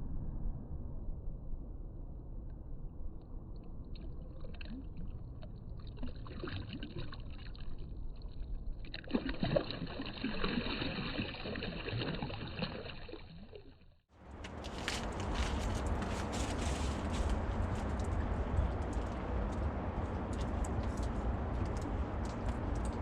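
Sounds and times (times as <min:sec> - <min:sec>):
river water splashing and gurgling: 0:03.9 - 0:23.0.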